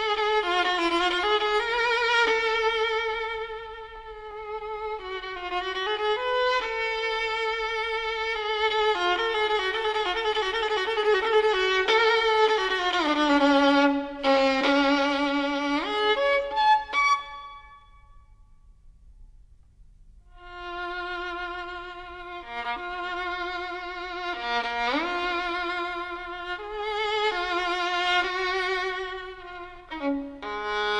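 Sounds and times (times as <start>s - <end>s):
solo violin melody: 0.0s - 18.2s, 20.3s - 30.9s.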